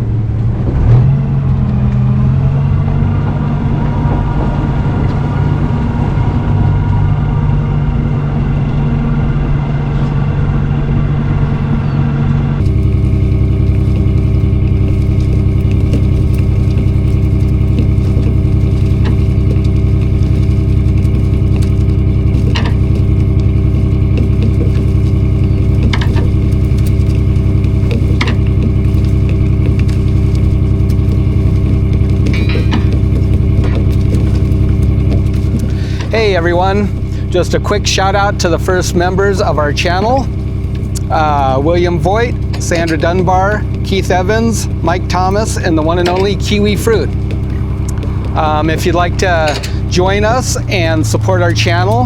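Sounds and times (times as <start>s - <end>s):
boat engine running: 0.0s - 52.0s.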